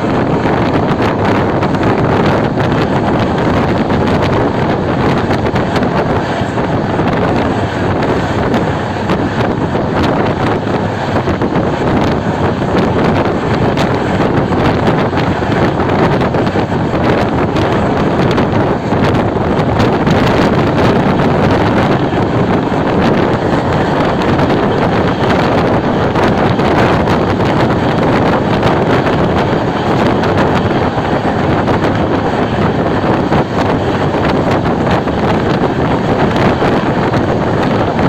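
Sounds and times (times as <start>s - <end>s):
train running at speed: 0.0s - 38.0s
wind buffeting microphone: 0.0s - 38.0s.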